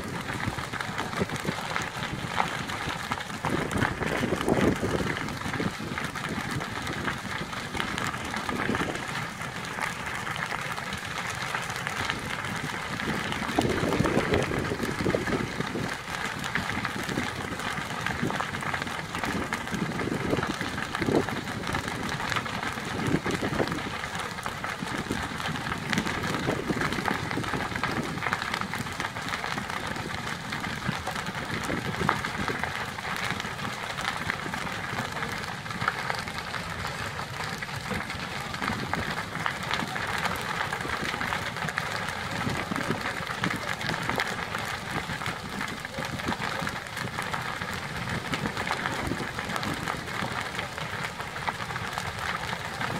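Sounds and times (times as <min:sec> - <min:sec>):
fire rushing noise: 0:00.0 - 0:52.7
fire crackling and popping: 0:00.0 - 0:52.9.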